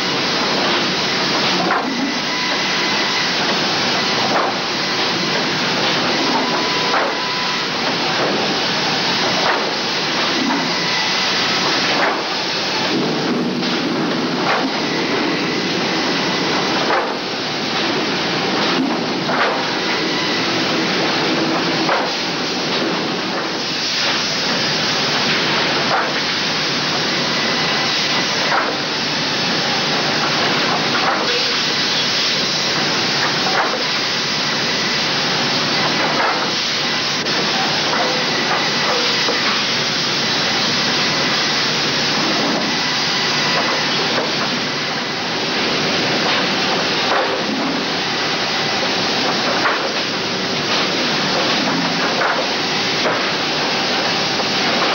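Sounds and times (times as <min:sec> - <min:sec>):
multi-saw running under load: 0:00.0 - 0:54.9.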